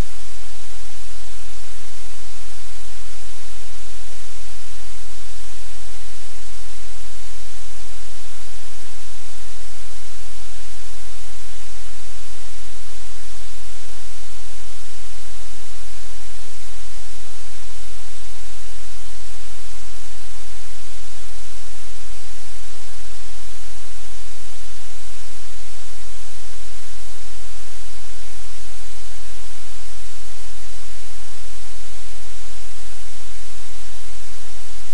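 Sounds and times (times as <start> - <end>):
loud static hiss: 0.0 - 34.9.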